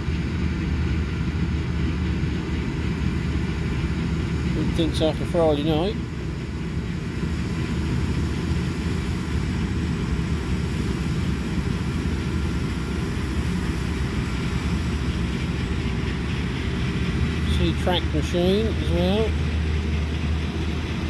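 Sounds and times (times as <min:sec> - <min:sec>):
combine harvester drone: 0:00.0 - 0:21.0.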